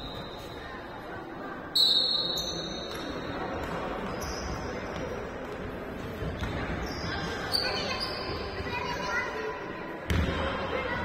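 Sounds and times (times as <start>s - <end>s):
noise of play in sports hall: 0.0s - 11.0s.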